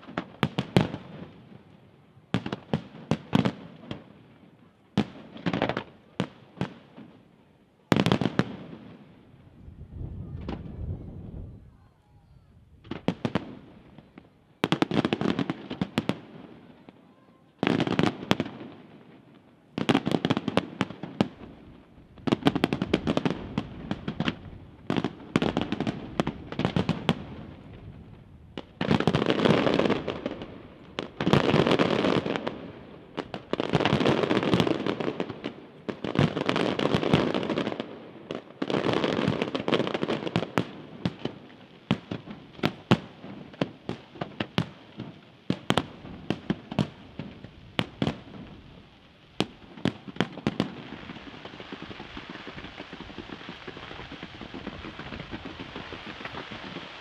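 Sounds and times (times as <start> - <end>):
firework bangs and crackling: 0.0 - 57.0.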